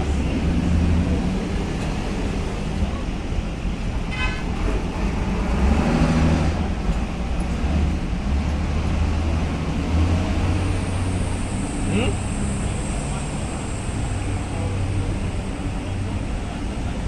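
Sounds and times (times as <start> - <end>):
vehicle engine and tyre rumble: 0.0 - 17.0.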